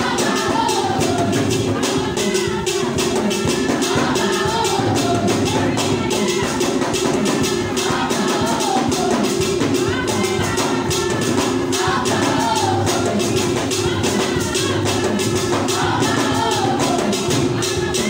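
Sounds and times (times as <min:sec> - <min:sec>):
fast percussion beat: 0:00.0 - 0:18.0.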